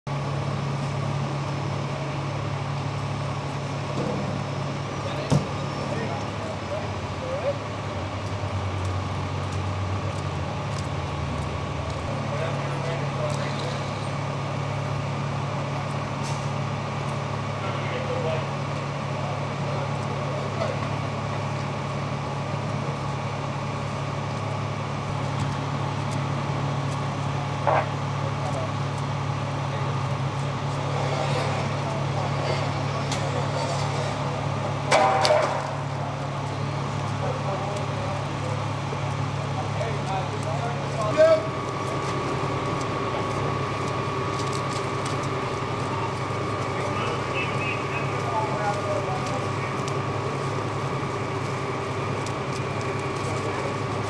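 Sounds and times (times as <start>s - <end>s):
diesel engines idling: 0.1s - 54.0s
machinery high whine: 0.1s - 54.0s
machinery low drone: 0.1s - 54.0s.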